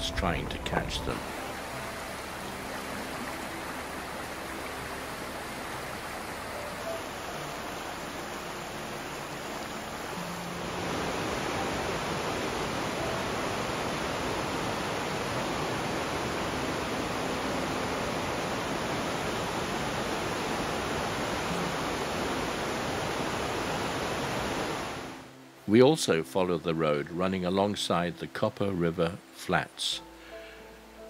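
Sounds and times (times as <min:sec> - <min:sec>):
river rushing: 0:00.0 - 0:26.2.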